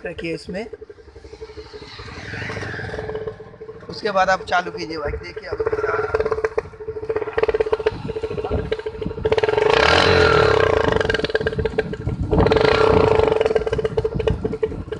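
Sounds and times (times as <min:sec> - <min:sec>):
motorcycle exhaust revving: 0:00.0 - 0:14.9.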